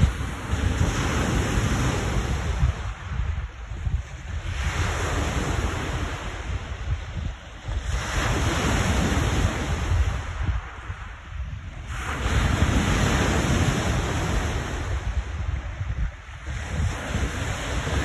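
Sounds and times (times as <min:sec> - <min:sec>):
lake waves crashing on shore: 0:00.0 - 0:18.0
wind buffeting microphone: 0:00.0 - 0:18.0.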